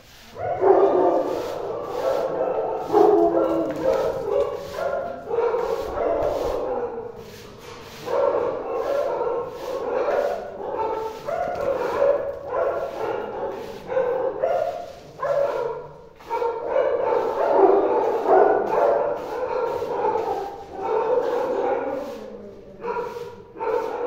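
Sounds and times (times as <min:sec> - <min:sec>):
broom scraping floor: 0:00.0 - 0:24.0.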